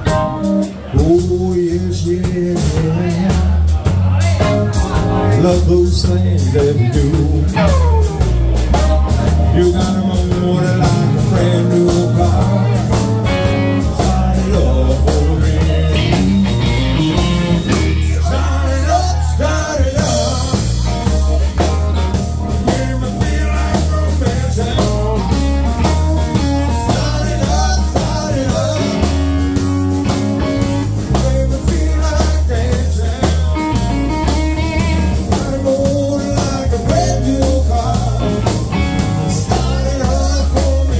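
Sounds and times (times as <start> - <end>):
blues-rock band playing: 0.0 - 40.9
drum kit: 0.0 - 40.9
electric guitar: 0.0 - 40.9.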